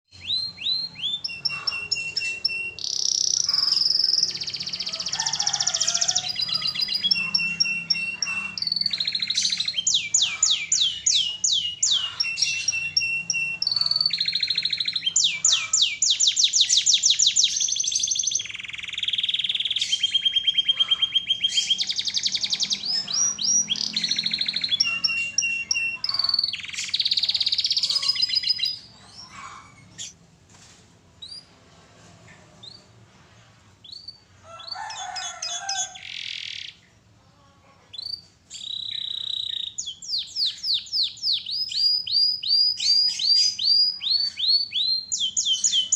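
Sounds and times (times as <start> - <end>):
canary singing trills: 0.1 - 30.2, 33.8 - 45.9.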